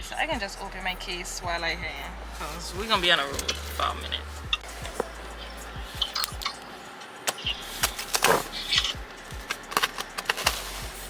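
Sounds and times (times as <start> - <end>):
low hum: 0.0 - 11.0
rustling: 2.1 - 11.0.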